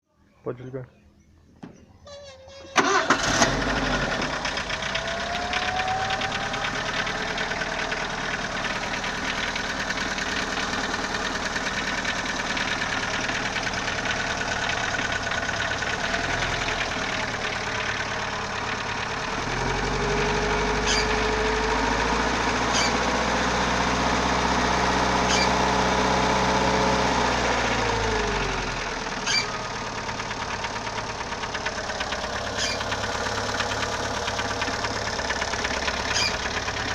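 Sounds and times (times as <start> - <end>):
car engine starting and idling: 1.2 - 36.9
engine revving: 2.8 - 36.9.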